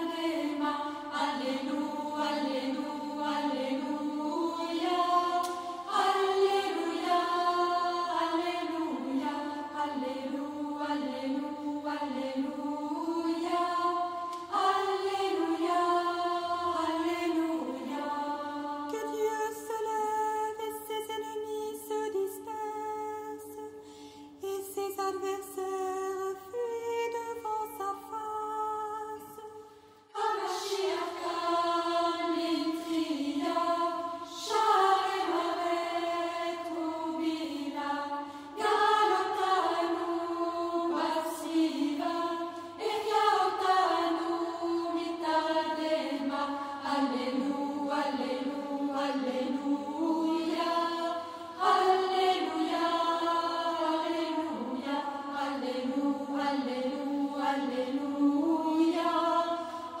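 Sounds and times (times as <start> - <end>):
voices singing chant: 0.0 - 60.0.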